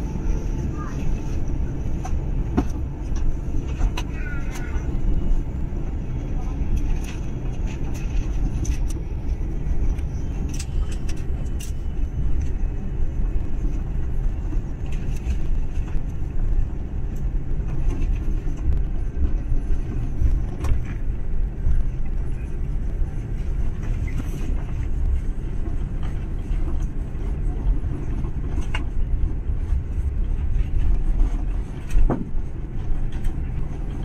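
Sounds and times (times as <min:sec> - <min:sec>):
aircraft engines rumbling: 0:00.0 - 0:34.0.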